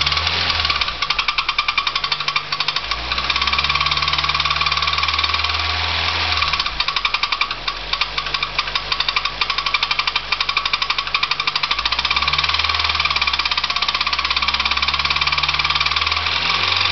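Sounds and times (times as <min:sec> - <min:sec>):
engine ticking clatter: 0:00.0 - 0:16.9.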